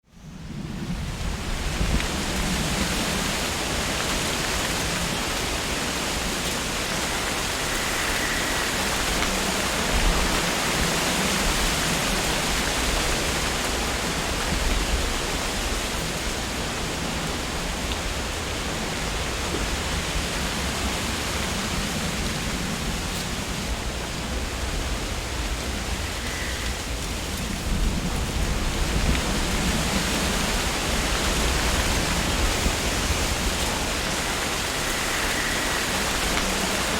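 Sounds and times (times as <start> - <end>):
wind rustling tree leaves: 0.0 - 36.9.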